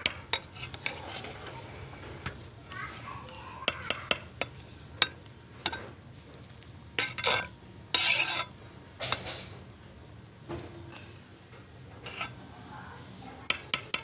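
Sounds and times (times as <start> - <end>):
skimmer scraping rice in pot: 0.0 - 9.5, 10.6 - 14.0.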